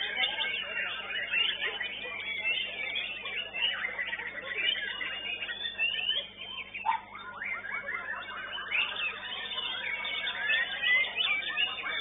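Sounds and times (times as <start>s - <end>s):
bird singing: 0.0s - 12.0s.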